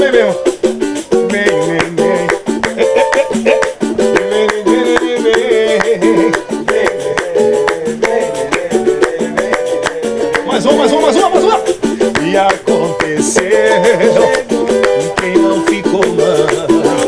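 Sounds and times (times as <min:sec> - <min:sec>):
shaker rhythm: 0:00.0 - 0:17.0
strummed plucked strings: 0:00.0 - 0:17.0.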